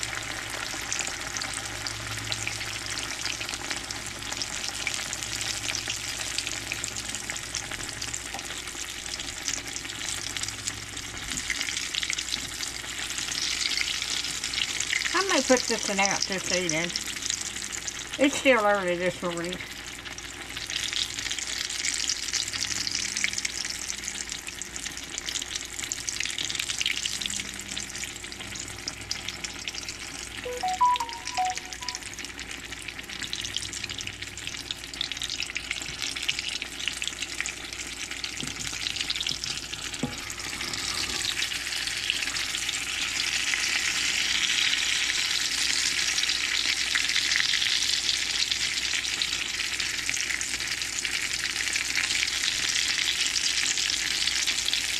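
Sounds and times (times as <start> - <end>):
oil frying sizzle: 0.0 - 54.9.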